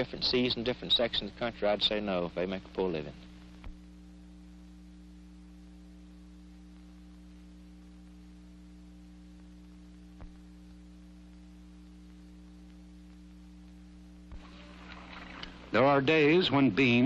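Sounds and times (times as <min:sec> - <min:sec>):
low mains hum and hiss: 0:00.0 - 0:17.0.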